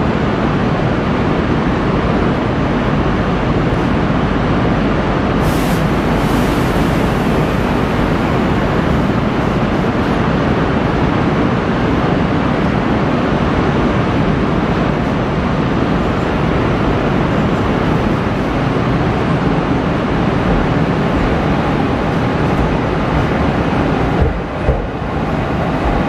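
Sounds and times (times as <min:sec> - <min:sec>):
train rushing past: 0:00.0 - 0:26.0.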